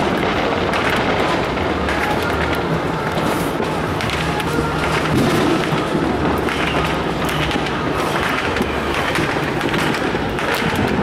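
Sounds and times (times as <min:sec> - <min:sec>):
distant fireworks bangs and pops: 0:00.0 - 0:11.0
low background noise: 0:00.0 - 0:11.0.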